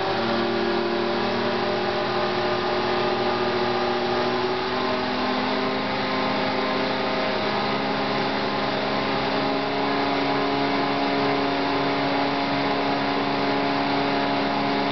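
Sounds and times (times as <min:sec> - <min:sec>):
machine hum with whining tones: 0:00.0 - 0:14.9.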